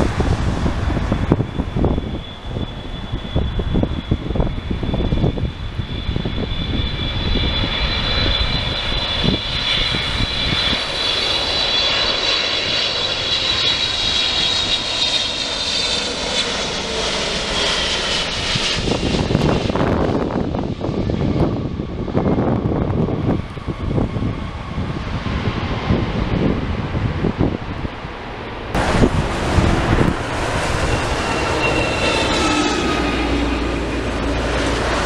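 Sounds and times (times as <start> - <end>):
jet airliner passing: 0.0 - 35.0.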